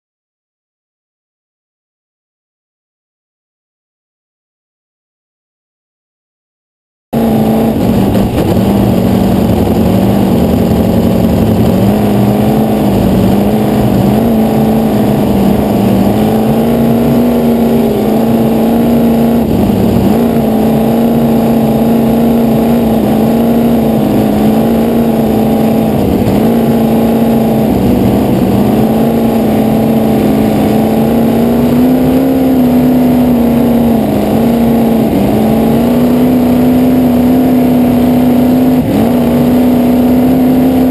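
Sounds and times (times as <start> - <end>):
race boat engine at high revs: 7.2 - 40.9.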